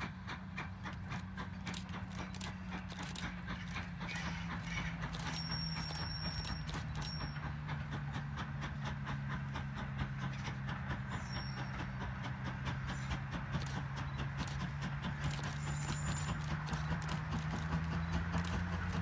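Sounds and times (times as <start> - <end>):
train wheels clicking over rail joints: 0.0 - 19.0.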